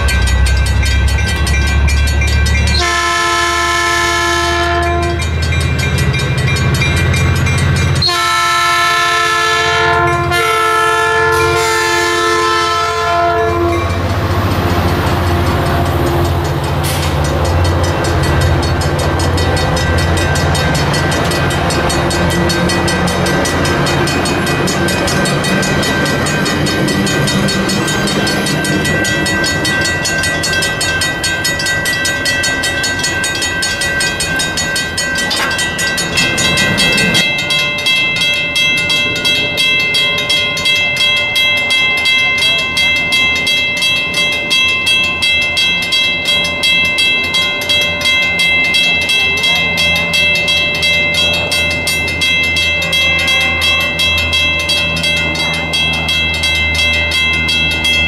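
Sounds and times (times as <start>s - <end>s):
diesel locomotive hum: 0.0s - 58.0s
grade crossing bell ringing: 0.0s - 58.0s
train wheels rumbling on rails: 0.0s - 58.0s.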